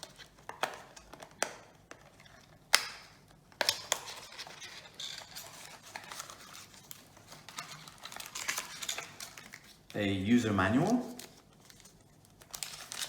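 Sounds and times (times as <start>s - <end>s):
cardboard and paper rustling: 0.0s - 13.0s.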